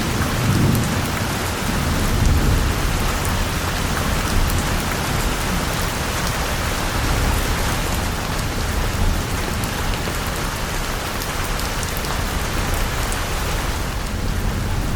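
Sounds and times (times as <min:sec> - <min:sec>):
heavy rain hissing: 0:00.0 - 0:14.9
thunder rumbling: 0:00.0 - 0:14.9.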